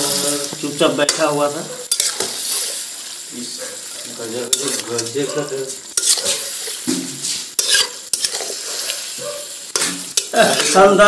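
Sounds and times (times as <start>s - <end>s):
food sizzling in a wok: 0.0s - 11.0s
spatula scraping a metal pan: 1.0s - 2.8s, 3.8s - 11.0s.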